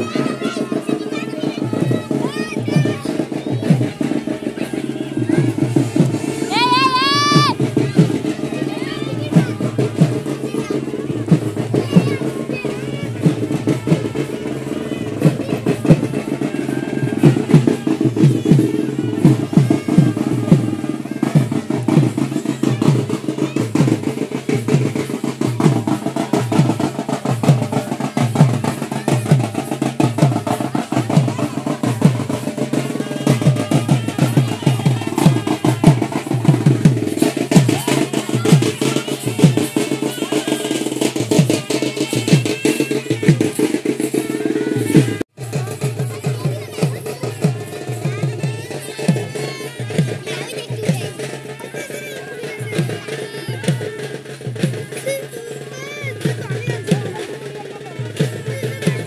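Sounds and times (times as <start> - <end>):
music with fast drumming: 0.0 - 59.0.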